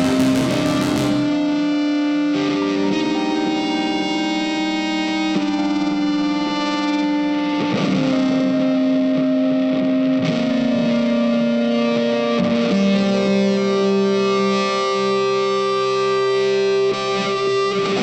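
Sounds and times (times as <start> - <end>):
sustained electric guitar with effects: 0.0 - 18.0.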